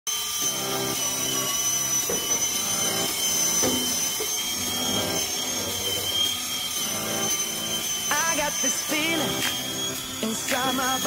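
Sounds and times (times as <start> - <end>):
high motor whine: 0.1 - 11.0
floor scrubber brushes on tile: 0.5 - 11.0.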